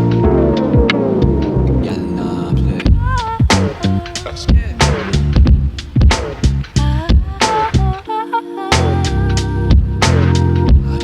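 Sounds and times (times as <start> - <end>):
hip-hop music with vocals: 0.0 - 11.0.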